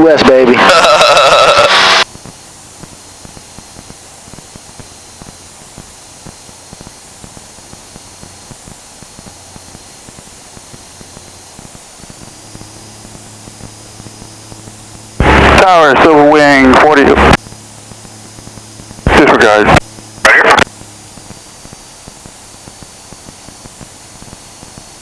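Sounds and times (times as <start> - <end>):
airplane cabin hum and hiss: 0.0 - 25.0.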